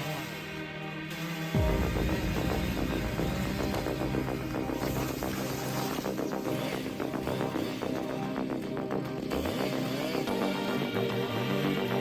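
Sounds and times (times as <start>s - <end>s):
electronic music with bass line: 0.0s - 12.0s.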